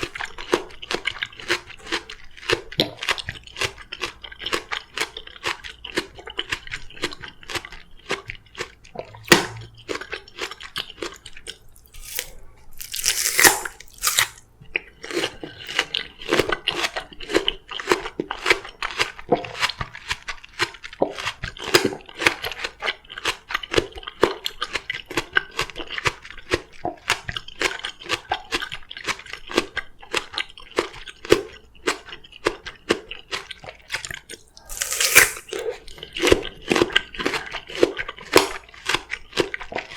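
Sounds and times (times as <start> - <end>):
crunchy chewing of melon: 0.0 - 39.9.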